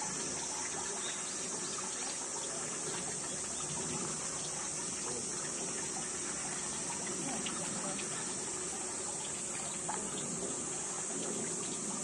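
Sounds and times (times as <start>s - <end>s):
steady outdoor background hiss: 0.0s - 12.0s.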